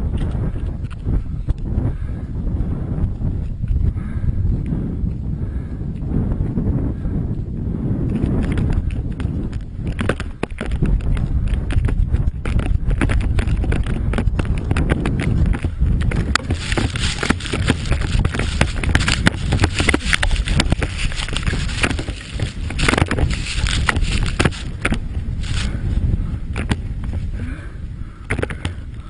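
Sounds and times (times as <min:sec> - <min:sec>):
snowmobile engine rumble: 0:00.0 - 0:29.0
wind on microphone: 0:00.0 - 0:29.0.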